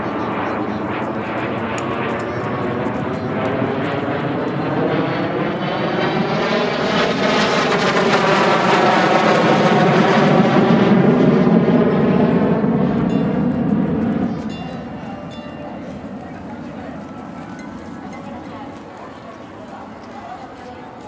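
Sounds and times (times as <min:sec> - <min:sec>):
jet flying past: 0:00.0 - 0:18.8.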